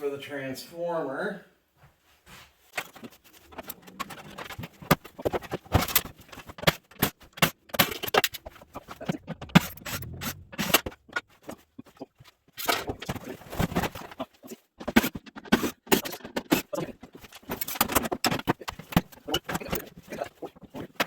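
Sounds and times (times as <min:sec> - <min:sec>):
metal parts knocking and scraping: 0:02.7 - 0:21.0.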